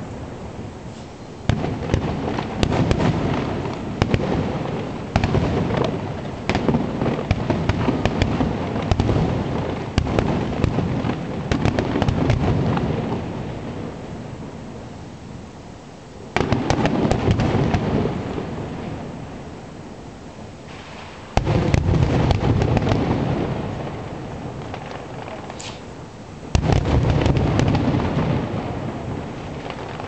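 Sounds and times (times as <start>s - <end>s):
fireworks booming and cracking: 0.0s - 14.9s, 16.2s - 19.7s, 20.6s - 30.0s.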